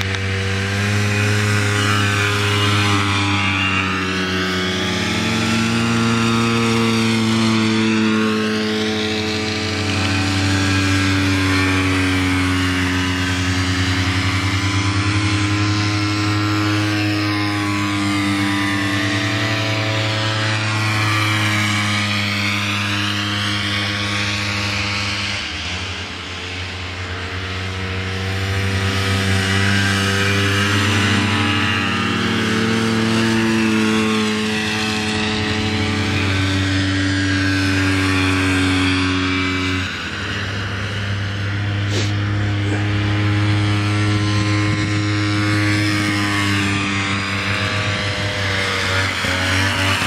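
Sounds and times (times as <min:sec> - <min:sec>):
snowmobile engines racing: 0:00.0 - 0:50.0.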